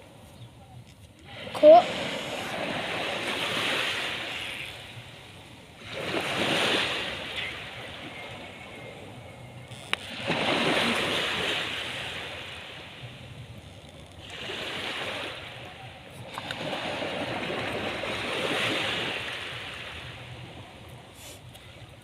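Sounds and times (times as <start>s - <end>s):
sea waves breaking on shore: 1.2s - 22.0s.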